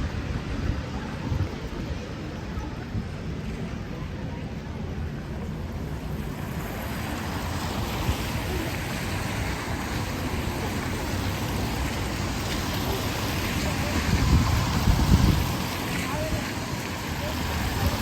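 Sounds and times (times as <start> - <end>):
steady rain: 0.0 - 18.0
traffic on wet street: 0.0 - 18.0
wind rumble on microphone: 0.0 - 18.0.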